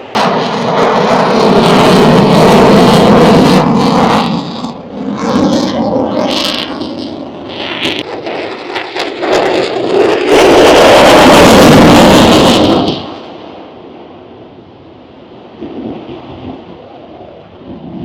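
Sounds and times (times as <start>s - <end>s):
aircraft engine rush: 0.0s - 18.0s
steady low rumble: 0.0s - 18.0s.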